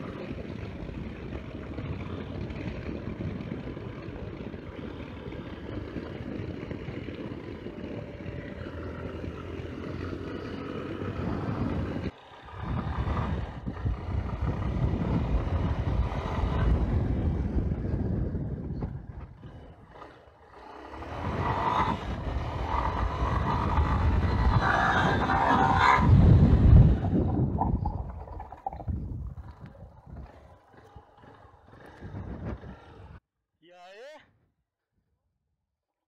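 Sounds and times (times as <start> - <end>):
motorcycle engine running: 0.0 - 33.2
wind rushing over microphone: 0.0 - 33.2.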